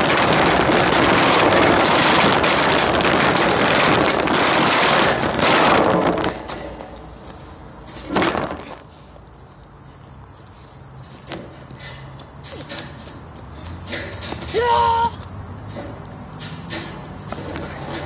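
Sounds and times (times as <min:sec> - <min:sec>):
shopping cart rattling over asphalt: 0:00.0 - 0:07.2, 0:07.8 - 0:09.1, 0:11.2 - 0:18.0.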